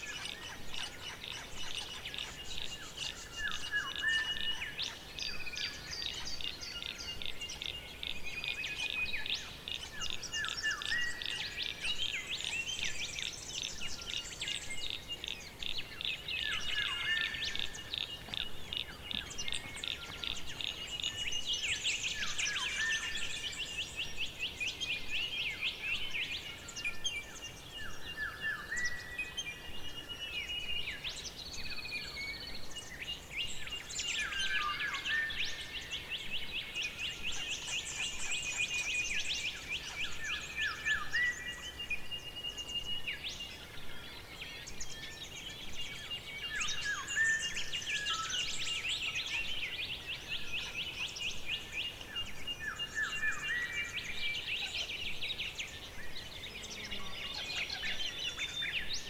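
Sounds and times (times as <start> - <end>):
forest birds singing: 0.0 - 59.0.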